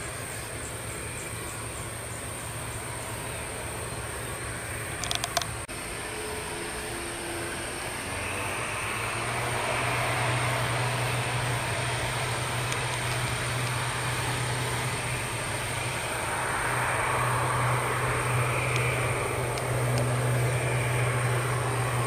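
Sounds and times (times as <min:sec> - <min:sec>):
turboprop engines droning: 0:00.0 - 0:22.0.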